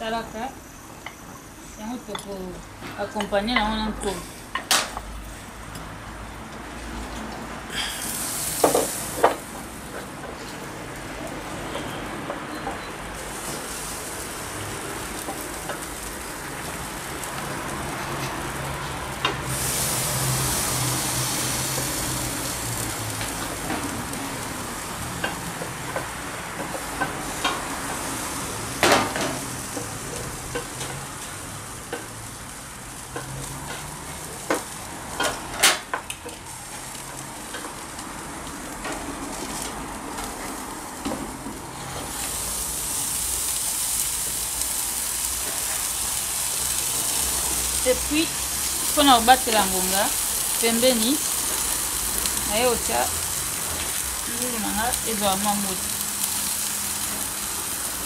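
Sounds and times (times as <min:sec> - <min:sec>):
food frying and sizzling: 0:00.0 - 0:58.0.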